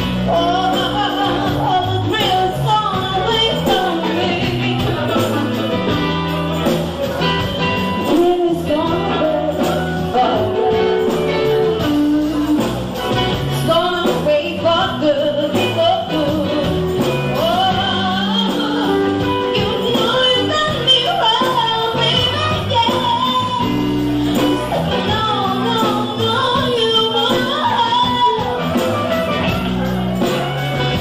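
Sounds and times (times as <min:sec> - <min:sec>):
woman singing: 0:00.0 - 0:29.8
drums with cymbals: 0:00.0 - 0:31.0
electric bass: 0:00.0 - 0:31.0
guitar: 0:00.0 - 0:31.0.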